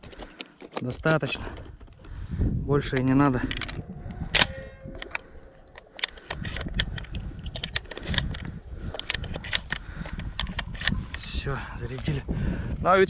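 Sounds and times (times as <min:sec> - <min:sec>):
shotgun shells clicking and clacking: 0:00.0 - 0:02.2, 0:02.8 - 0:12.1.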